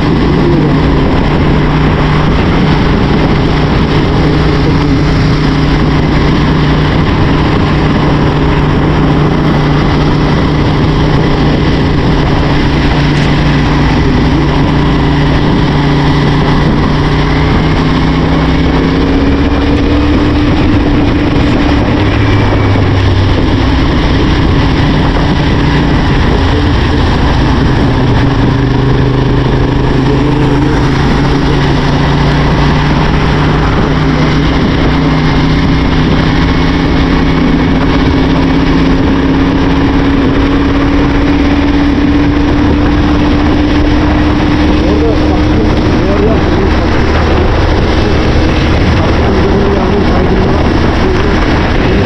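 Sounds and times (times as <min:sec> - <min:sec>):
motorcycle engine cruising: 0:00.0 - 0:52.0
rain noise: 0:00.0 - 0:52.0
wind noise: 0:00.0 - 0:52.0.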